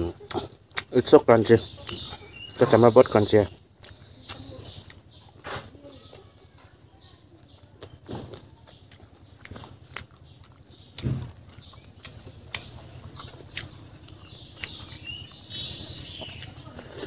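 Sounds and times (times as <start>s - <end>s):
chewing and mouth smacks: 0.0s - 2.8s, 3.6s - 5.8s, 7.4s - 17.0s.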